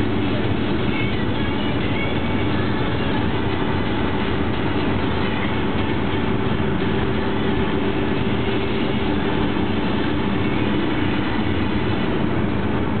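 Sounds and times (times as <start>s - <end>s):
engine running steadily: 0.0s - 13.0s
road noise: 0.0s - 13.0s.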